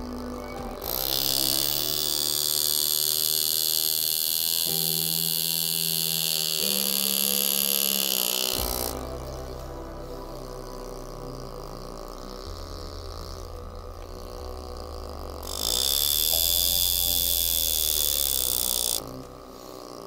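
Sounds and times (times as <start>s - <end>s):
bright steady hiss: 0.0s - 20.0s
droning background music: 0.0s - 20.0s.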